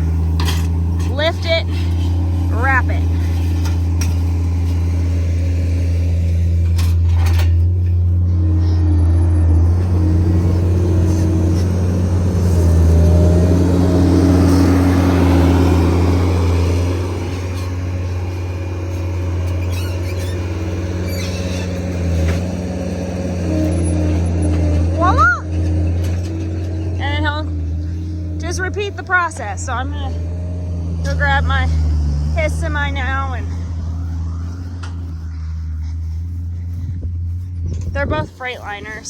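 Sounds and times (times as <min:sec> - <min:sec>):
loader engine running under load: 0:00.0 - 0:39.0.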